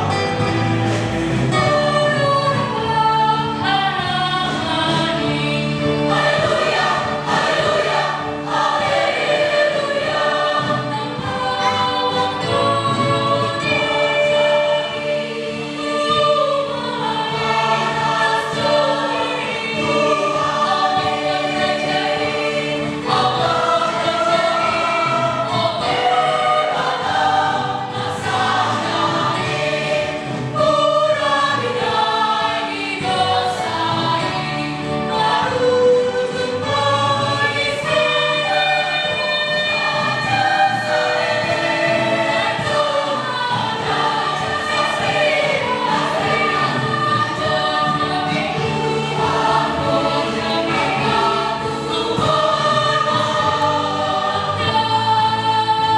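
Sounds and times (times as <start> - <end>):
mixed choir singing: 0.0 - 55.9.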